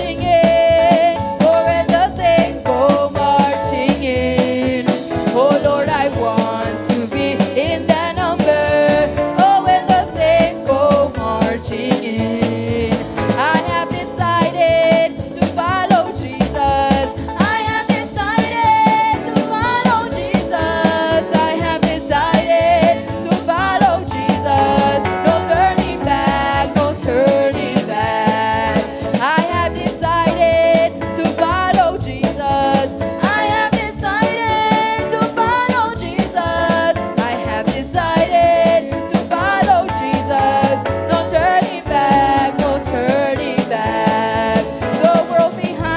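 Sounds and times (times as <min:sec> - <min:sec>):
church band playing: 0:00.0 - 0:45.9
voices singing: 0:00.0 - 0:45.9.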